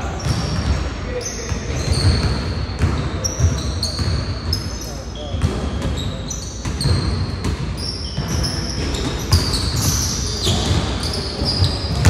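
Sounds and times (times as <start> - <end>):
sneakers squeaking on court: 0.0 - 12.0
basketballs bouncing on hardwood floor: 0.2 - 0.9, 1.5 - 4.7, 5.3 - 12.0.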